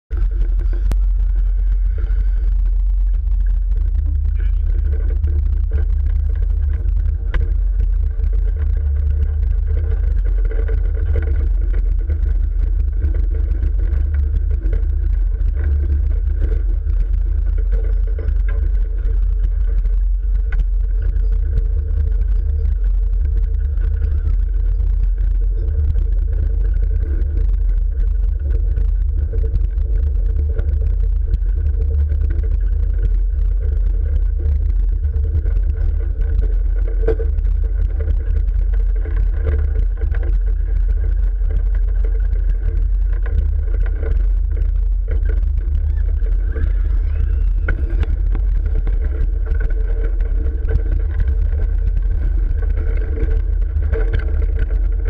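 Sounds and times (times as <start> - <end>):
faint whine: 0.0 - 55.0
roller coaster wheels rumbling: 0.1 - 55.0.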